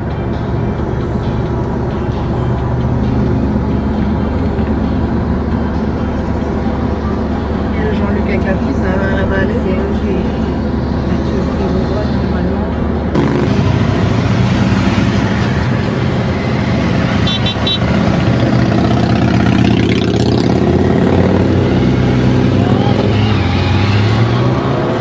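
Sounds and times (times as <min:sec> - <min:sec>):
motorcycles passing by: 0:00.0 - 0:25.0.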